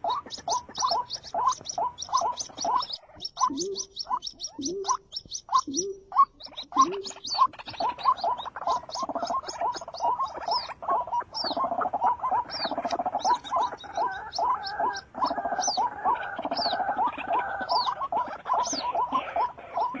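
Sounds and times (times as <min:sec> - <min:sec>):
high rapid animal chirps: 0:00.0 - 0:20.0
lower repeated animal calls: 0:00.0 - 0:20.0.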